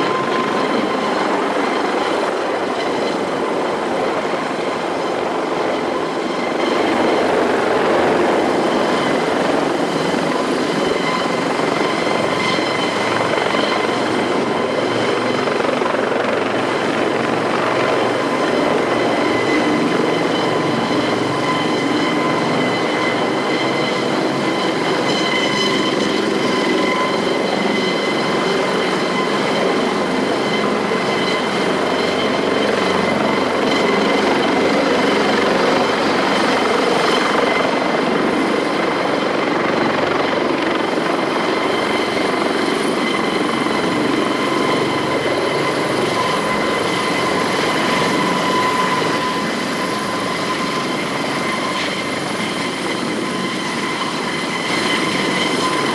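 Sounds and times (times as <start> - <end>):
helicopter turbine whine: 0.0 - 55.9.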